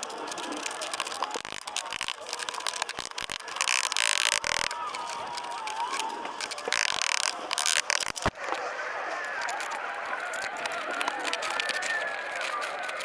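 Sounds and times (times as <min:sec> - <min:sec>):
gritty scraping of pavers: 0:00.0 - 0:13.0.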